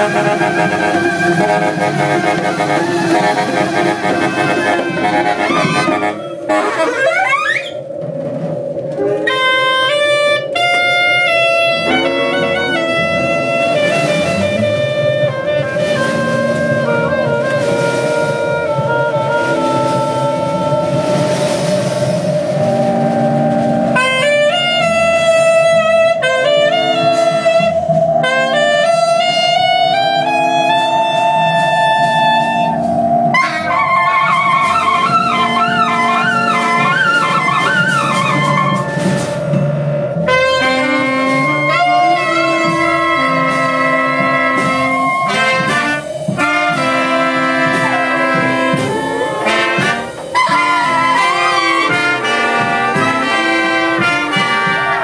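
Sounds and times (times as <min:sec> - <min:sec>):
bending solo horn line: 0:00.0 - 0:07.8, 0:09.2 - 0:21.6, 0:23.9 - 0:55.0
big band jazz: 0:00.0 - 0:55.0.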